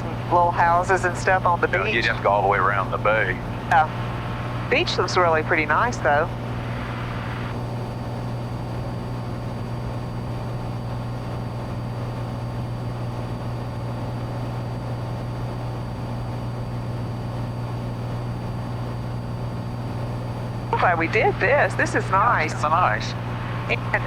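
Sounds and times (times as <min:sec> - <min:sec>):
airplane engine and propeller droning: 0:00.0 - 0:24.0.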